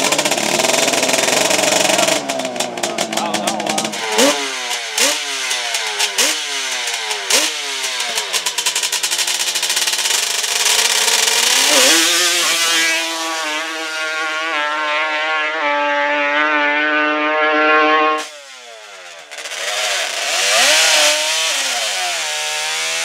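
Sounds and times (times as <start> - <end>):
quad engine revving: 0.0 - 23.0.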